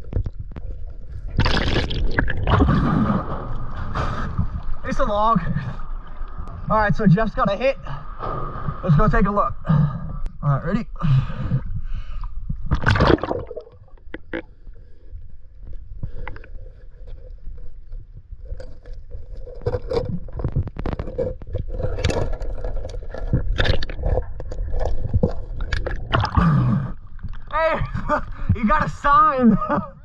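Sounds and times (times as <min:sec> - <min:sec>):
person moving through water: 0:00.0 - 0:06.7, 0:11.4 - 0:29.0.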